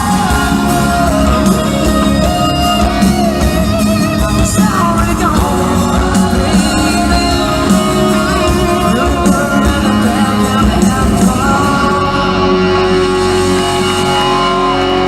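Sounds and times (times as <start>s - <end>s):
live country rock band: 0.0s - 15.0s
person singing: 0.0s - 15.0s.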